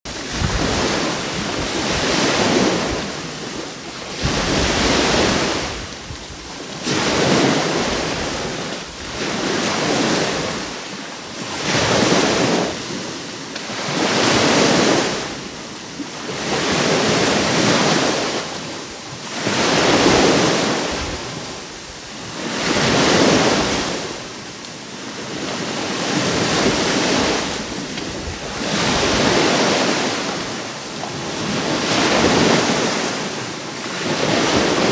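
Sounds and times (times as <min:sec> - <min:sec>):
sea waves breaking on shore: 0:00.1 - 0:34.9.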